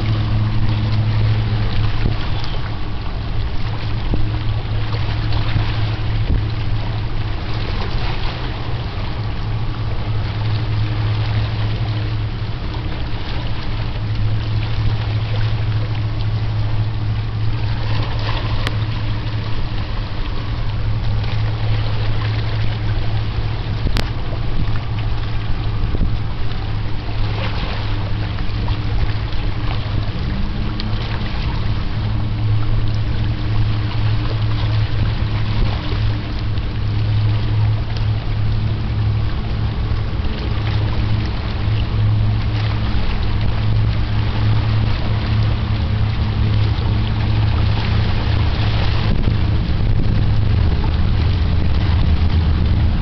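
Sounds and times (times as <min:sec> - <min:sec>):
boat engine drone: 0:00.0 - 0:53.0
wind noise on microphone: 0:00.0 - 0:53.0.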